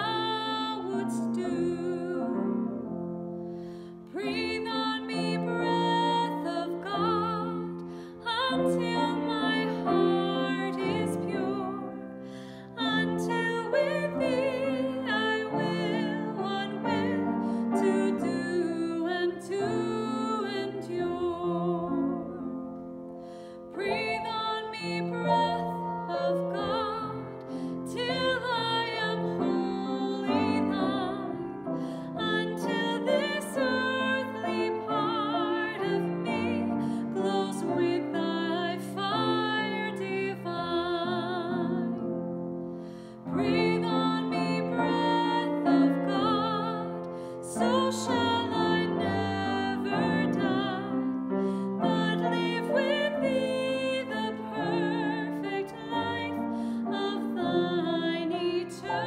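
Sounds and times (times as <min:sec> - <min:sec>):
person singing with vibrato: 0:00.0 - 0:02.7, 0:03.9 - 0:22.6, 0:23.5 - 0:42.0, 0:43.1 - 0:59.0
piano accompaniment: 0:00.0 - 0:59.0.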